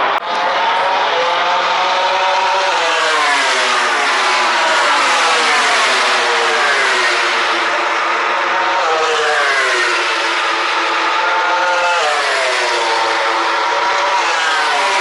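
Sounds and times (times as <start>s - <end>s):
racing motorcycles passing by: 0.2s - 15.0s.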